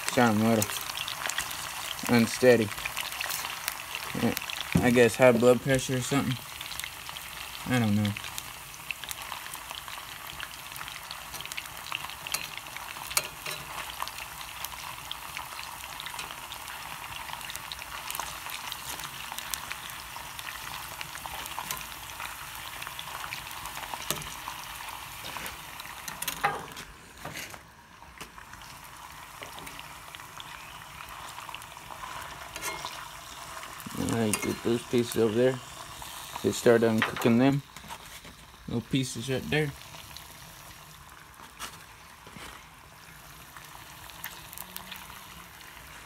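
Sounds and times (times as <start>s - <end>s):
meat sizzling in hot oil: 0.0s - 26.7s, 27.7s - 46.0s.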